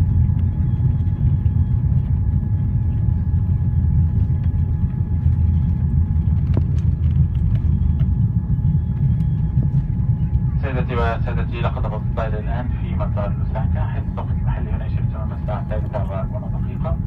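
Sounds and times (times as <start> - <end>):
aircraft wheels on runway: 0.0 - 17.0
faint steady whine: 0.0 - 17.0
jet engine noise: 0.0 - 17.0.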